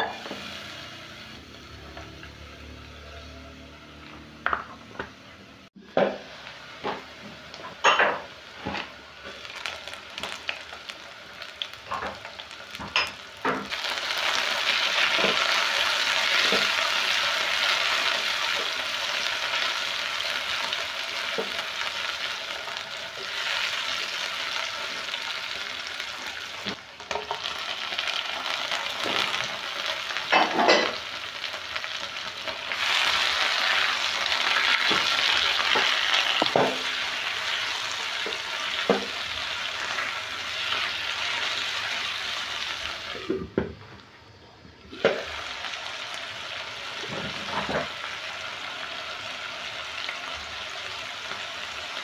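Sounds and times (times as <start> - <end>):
vegetables sizzling in oil: 0.0 - 4.6, 5.7 - 52.0.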